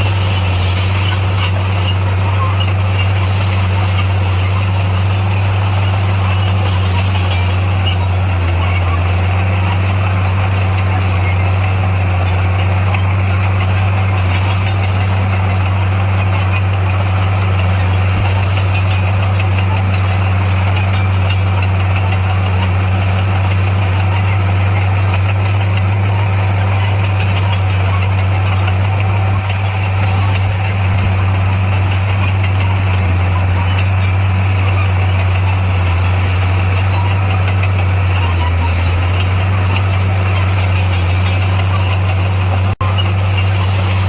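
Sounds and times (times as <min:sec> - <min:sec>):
diesel engine running steadily: 0:00.0 - 0:44.0.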